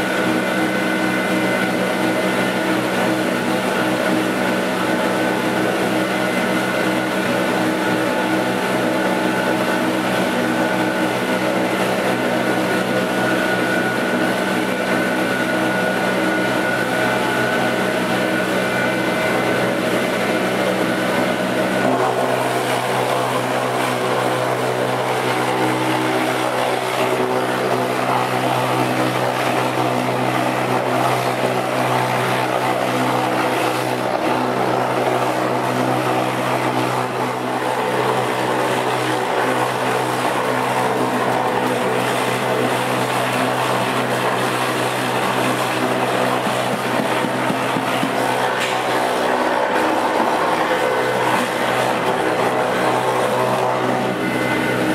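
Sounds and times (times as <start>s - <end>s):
bowl cutter humming: 0.0s - 54.9s.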